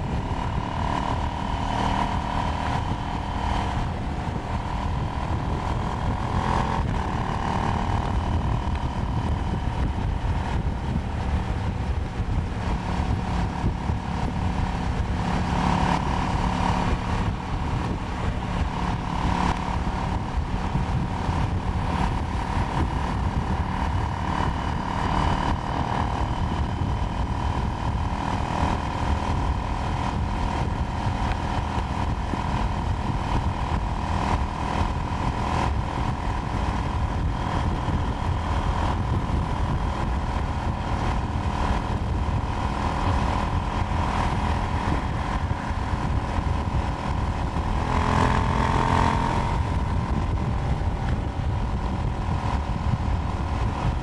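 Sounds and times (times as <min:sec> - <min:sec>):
motorcycle engine cruising: 0:00.0 - 0:54.0
road rumble: 0:00.0 - 0:54.0
wind rush: 0:00.0 - 0:54.0.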